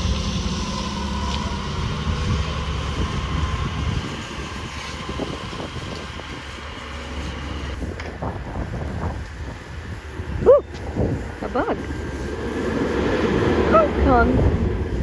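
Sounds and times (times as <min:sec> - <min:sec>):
garbage truck diesel engines rumbling: 0:00.0 - 0:15.0.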